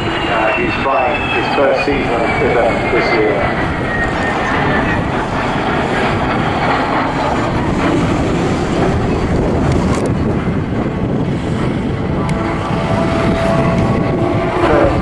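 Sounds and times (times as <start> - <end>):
jet aircraft flying overhead: 0.0 - 15.0.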